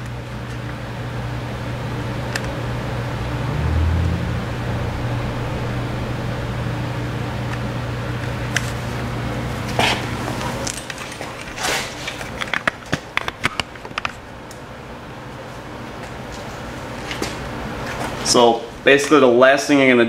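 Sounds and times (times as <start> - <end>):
fan humming: 0.0 - 20.0.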